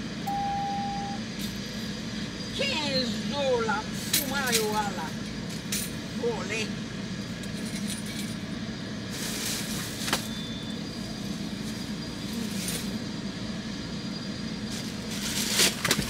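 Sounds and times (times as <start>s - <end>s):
low hum of vehicle noise: 0.0s - 16.0s.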